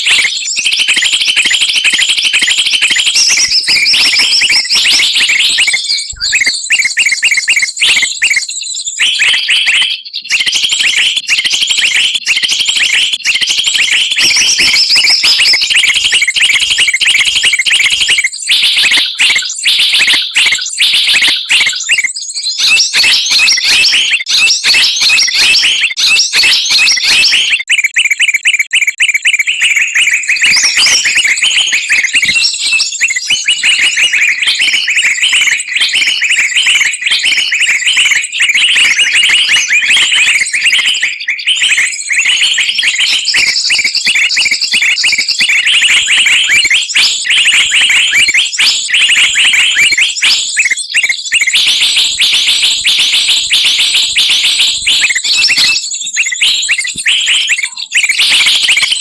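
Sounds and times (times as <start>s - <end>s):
songbirds chirping and whistling: 0.0s - 59.0s.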